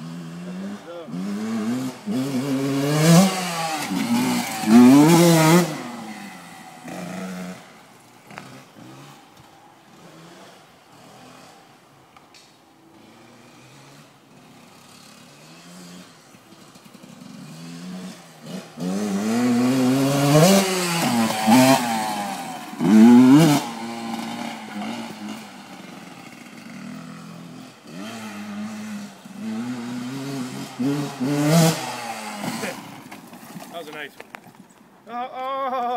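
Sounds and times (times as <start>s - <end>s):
dirt bike engine revving: 0.0s - 9.3s, 9.9s - 11.8s, 12.9s - 33.1s.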